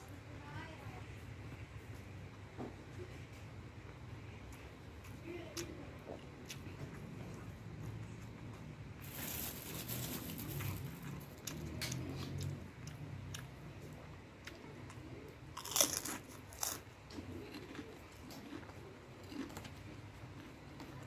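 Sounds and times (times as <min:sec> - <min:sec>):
person chewing crunchy food: 0:03.8 - 0:21.0.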